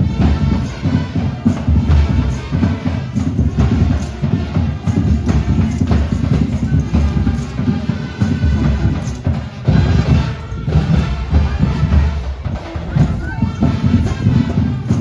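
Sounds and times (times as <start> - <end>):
drums and percussion: 0.0 - 15.0
street band playing loud music: 0.0 - 15.0.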